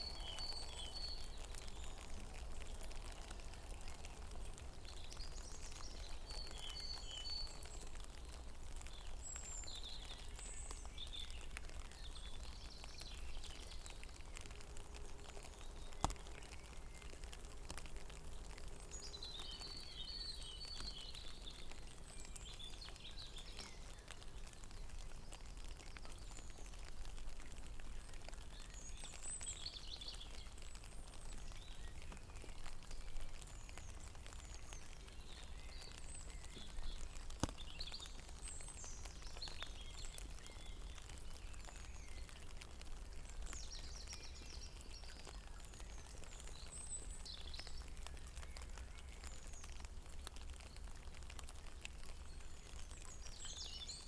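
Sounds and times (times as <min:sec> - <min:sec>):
small birds chirping: 0:00.0 - 0:14.7, 0:15.3 - 0:54.0
light rain on a pond: 0:00.0 - 0:54.0.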